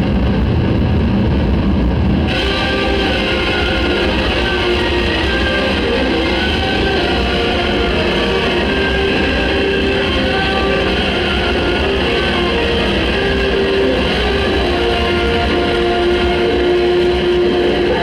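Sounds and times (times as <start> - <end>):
distorted noise music: 0.0 - 18.0.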